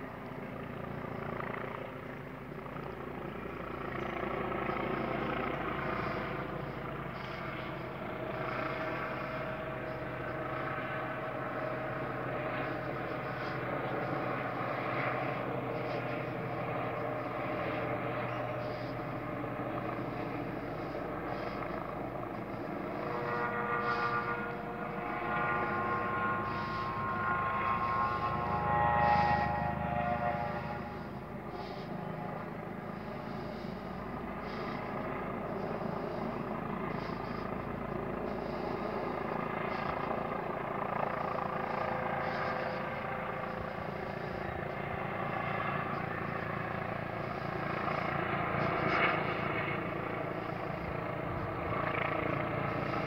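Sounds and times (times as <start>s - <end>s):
helicopter flying overhead: 0.0s - 53.0s.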